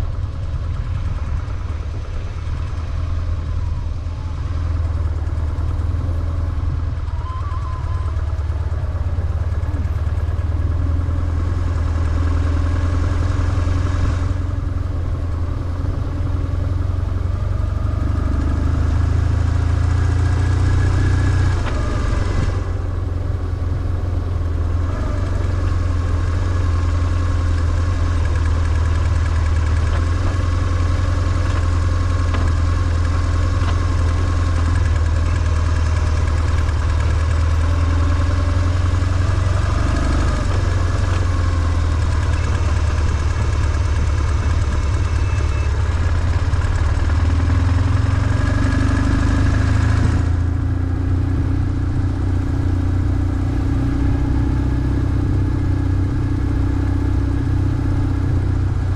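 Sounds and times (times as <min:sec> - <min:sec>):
motorcycle engine idling: 0:00.0 - 0:48.2.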